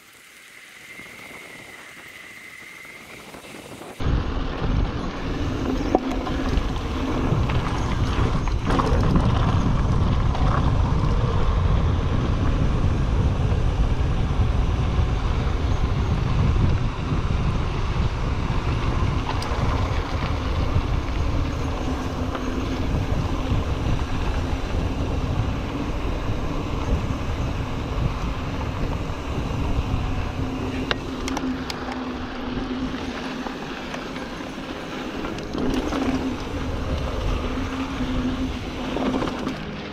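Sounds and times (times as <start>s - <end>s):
wind buffeting microphone: 0.9s - 39.8s
tyres rumbling over gravel: 3.3s - 13.8s, 17.5s - 39.9s.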